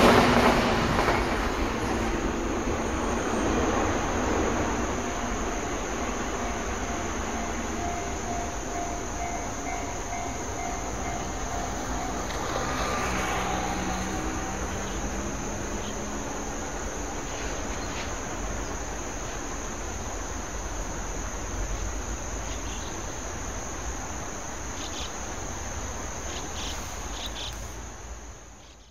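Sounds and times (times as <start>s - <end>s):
electric train humming: 0.0s - 27.2s
insects chirring: 0.1s - 28.9s.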